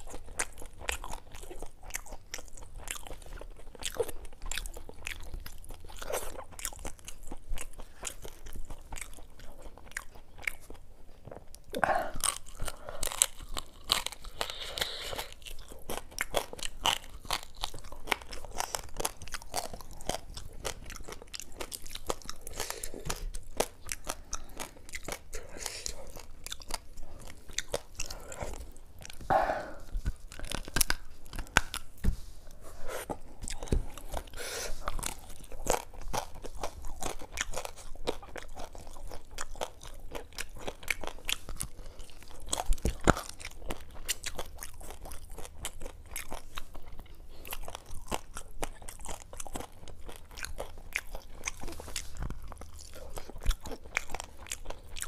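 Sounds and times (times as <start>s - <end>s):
chewing crunches: 0.0s - 55.0s.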